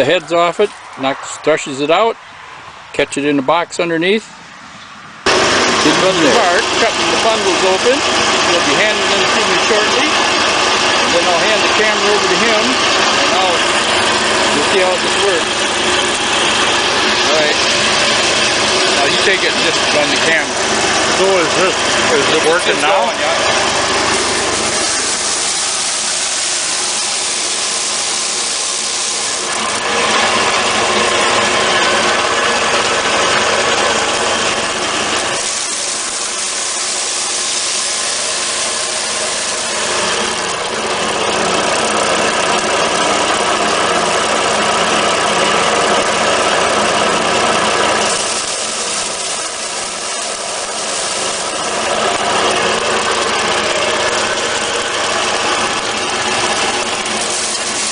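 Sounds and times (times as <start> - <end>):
hammer mill running: 5.2 - 57.9.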